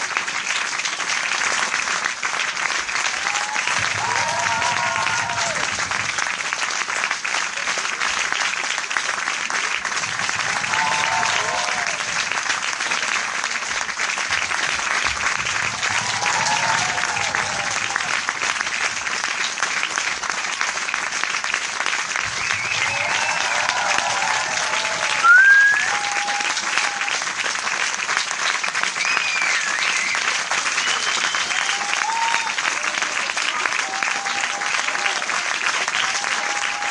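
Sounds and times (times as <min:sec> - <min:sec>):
crowd applauding: 0:00.0 - 0:36.9.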